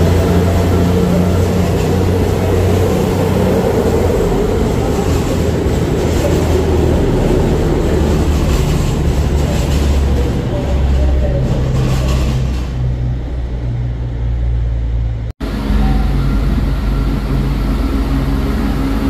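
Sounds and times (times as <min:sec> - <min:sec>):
diesel train engine droning: 0:00.0 - 0:19.0.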